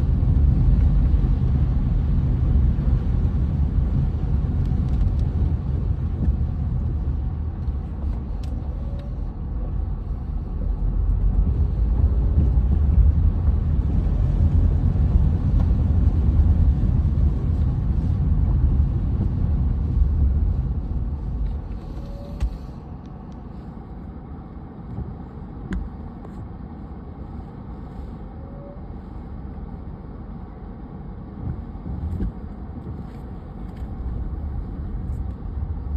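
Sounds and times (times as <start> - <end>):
car road noise rumble: 0.0 - 35.9.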